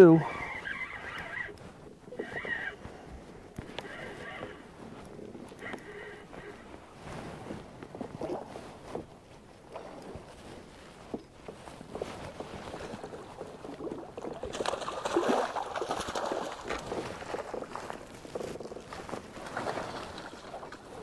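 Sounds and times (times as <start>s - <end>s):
water splashing against canoe: 0.2s - 21.0s.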